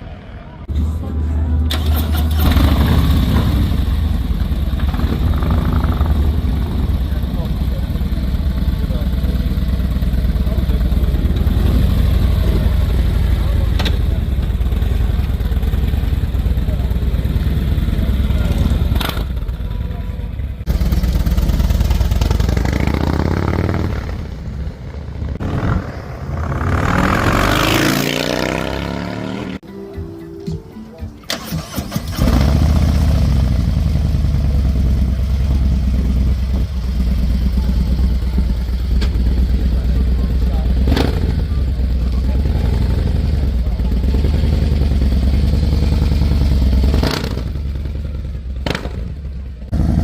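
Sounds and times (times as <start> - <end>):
motorcycle engine revving: 1.7 - 29.6, 31.3 - 50.0.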